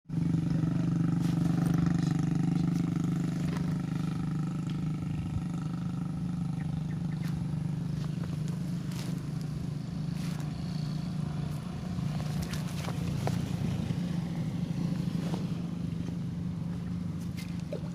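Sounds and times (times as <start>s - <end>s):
low engine hum: 0.1s - 17.9s.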